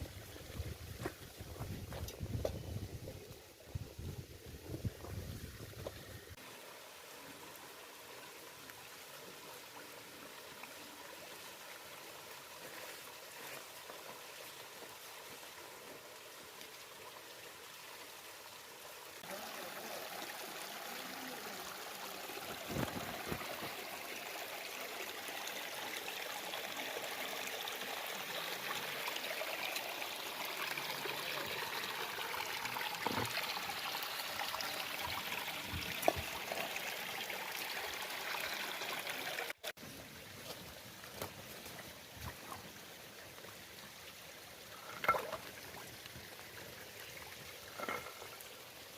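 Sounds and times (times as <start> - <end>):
running water: 0.0 - 48.9.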